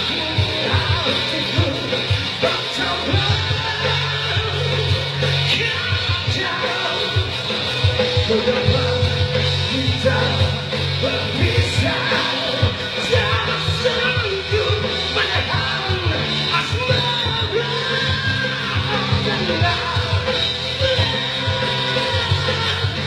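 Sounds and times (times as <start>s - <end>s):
rock band music with vocals: 0.0s - 23.0s.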